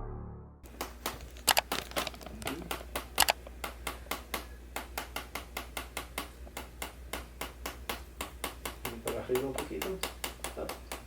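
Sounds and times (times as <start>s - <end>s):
rapid sharp clicks: 0.7s - 11.0s.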